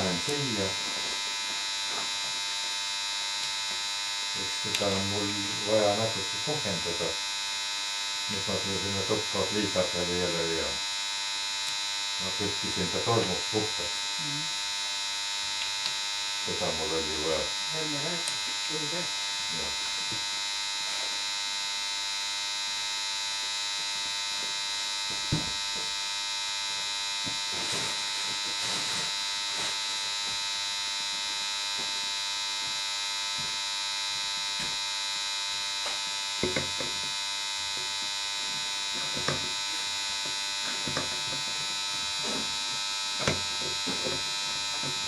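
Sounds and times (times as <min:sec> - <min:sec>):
steady electrical buzz: 0:00.0 - 0:45.0.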